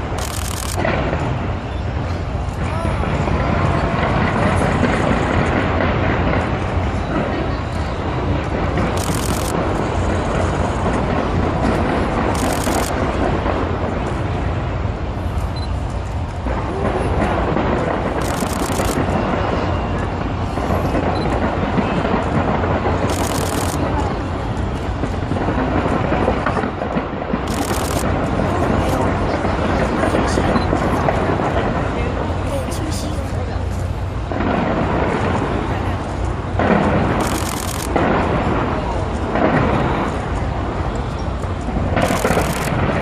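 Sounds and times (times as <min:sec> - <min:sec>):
fireworks bursting: 0:00.0 - 0:43.0
fireworks crackling: 0:00.0 - 0:43.0.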